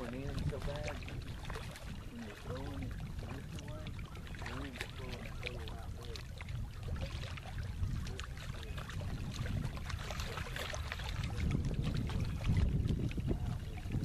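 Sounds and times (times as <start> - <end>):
small waves lapping on rocks: 0.0 - 14.0
wind rumbling on microphone: 0.0 - 14.0.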